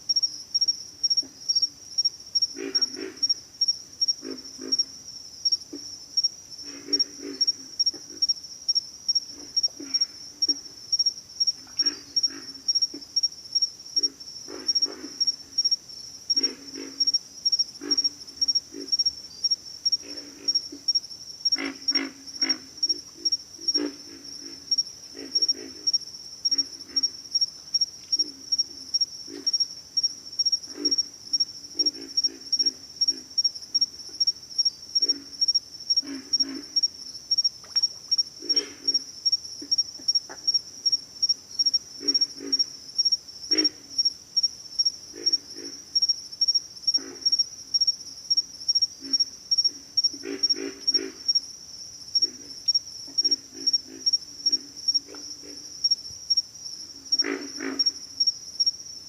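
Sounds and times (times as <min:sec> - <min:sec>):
high-pitched insect chorus: 0:00.0 - 0:59.0
frogs grunting: 0:01.1 - 0:05.0, 0:06.6 - 0:08.4, 0:09.2 - 0:15.7, 0:16.3 - 0:17.2, 0:17.8 - 0:19.2, 0:19.9 - 0:44.1, 0:44.8 - 0:58.3.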